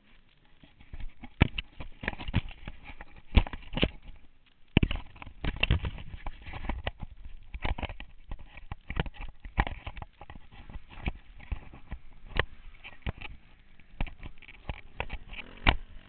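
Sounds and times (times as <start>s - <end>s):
camera rattling against mount: 0.0s - 16.0s.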